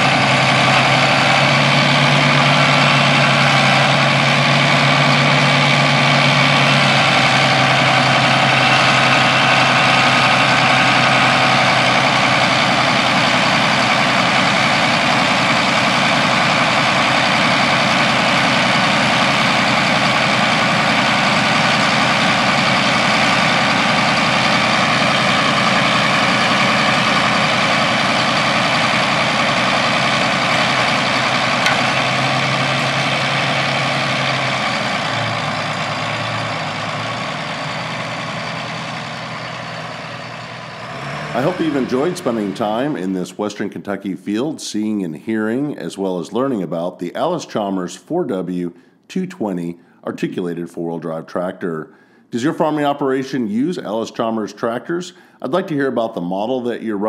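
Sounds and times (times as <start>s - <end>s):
tractor diesel engine running: 0.0s - 46.6s.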